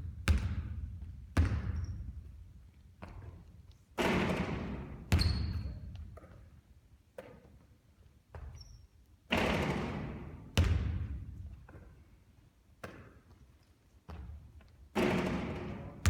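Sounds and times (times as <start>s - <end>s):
basketball bouncing indoors: 0.0s - 16.0s.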